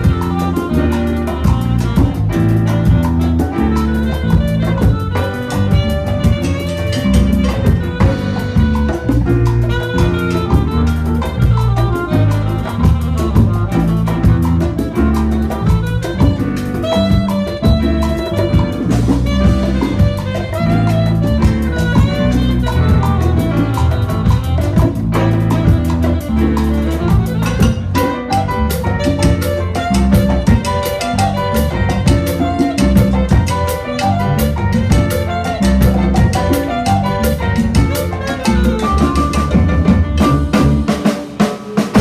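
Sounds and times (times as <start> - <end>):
bass: 0.0 - 42.0
congas: 0.0 - 42.0
drum kit: 0.0 - 42.0
horn section: 0.0 - 42.0
piano: 0.0 - 42.0.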